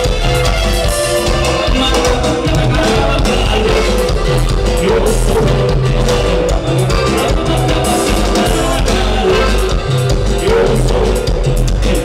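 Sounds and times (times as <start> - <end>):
live dance band playing: 0.0 - 12.0.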